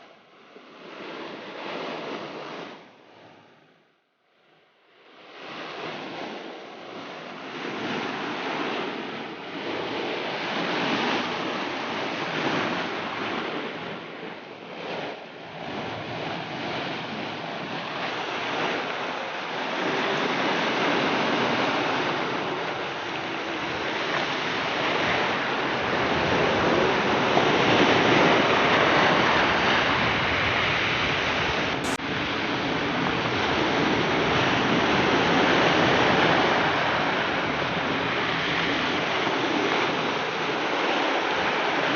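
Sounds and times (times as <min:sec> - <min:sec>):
sea waves washing onto shore: 0:05.2 - 0:41.9.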